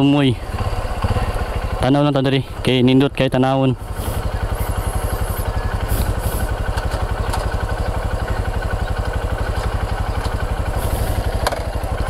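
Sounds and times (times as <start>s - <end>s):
engine running with low throb: 0.0s - 12.0s.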